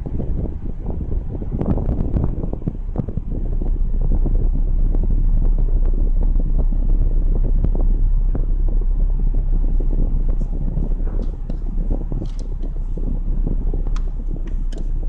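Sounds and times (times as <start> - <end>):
old car engine rumbling: 0.0 - 15.0
wind noise on microphone: 0.0 - 15.0.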